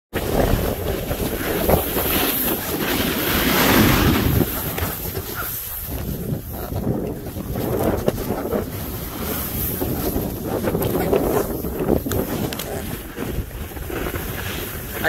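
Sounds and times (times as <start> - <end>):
wind buffeting microphone: 0.1 - 15.0
snowboard sliding through snow: 0.2 - 15.0.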